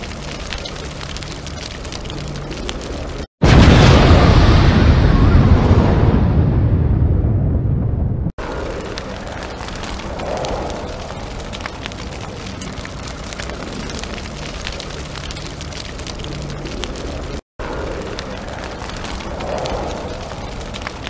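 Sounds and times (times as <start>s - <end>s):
rushing noise with crackles and pops: 0.0s - 21.0s.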